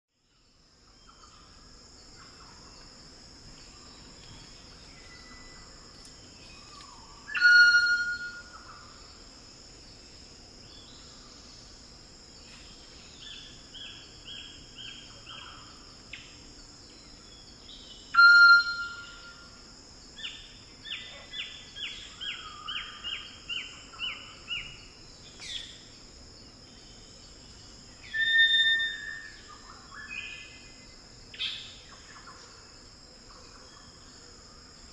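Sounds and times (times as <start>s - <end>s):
insects droning: 0.2s - 34.9s.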